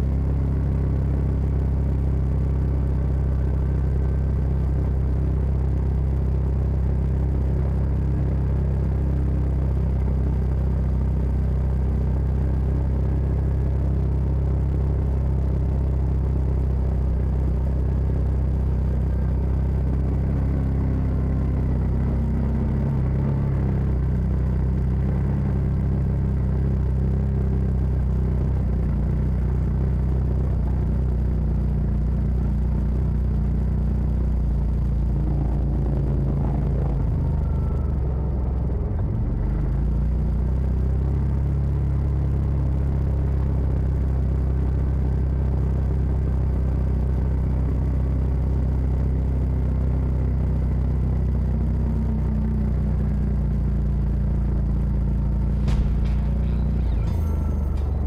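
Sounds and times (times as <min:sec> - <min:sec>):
vehicle engine running low rumble: 0:00.0 - 0:58.0.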